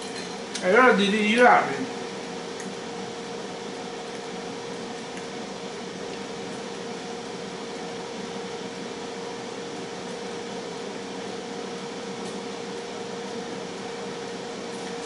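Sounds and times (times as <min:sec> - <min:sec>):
air fryer fan whirring: 0:00.0 - 0:15.0.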